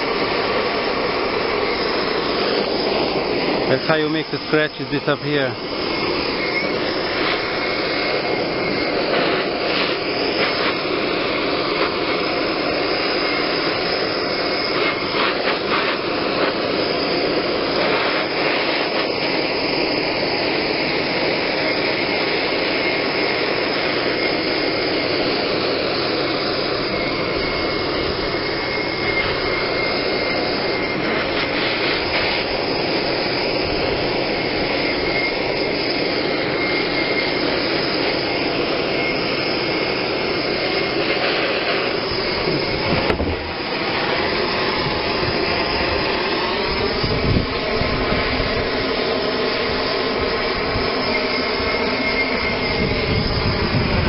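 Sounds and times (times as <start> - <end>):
propane torch hissing: 0.0 - 54.0.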